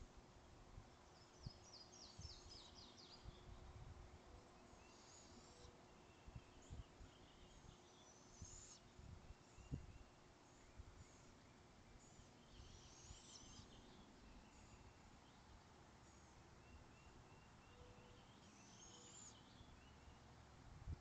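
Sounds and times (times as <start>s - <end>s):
faint distant songbirds: 0.0s - 21.0s.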